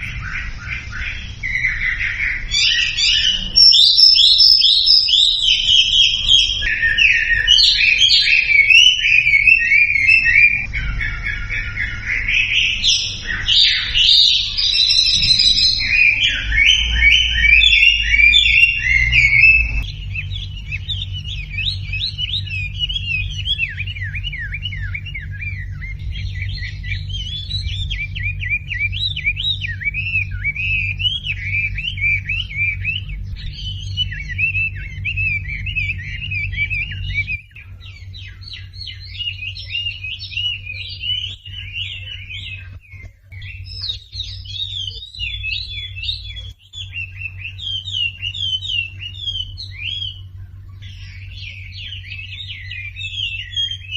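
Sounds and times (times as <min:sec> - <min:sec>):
birds chirping and whistling: 0:00.0 - 0:53.9
low steady hum: 0:00.0 - 0:53.9
repeated down-slurred bird notes: 0:00.0 - 0:53.9.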